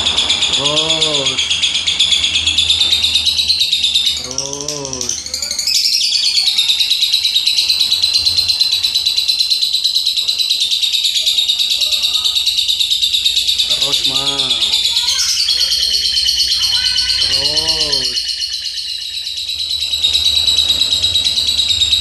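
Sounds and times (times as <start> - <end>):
lovebird chattering song: 0.0 - 22.0.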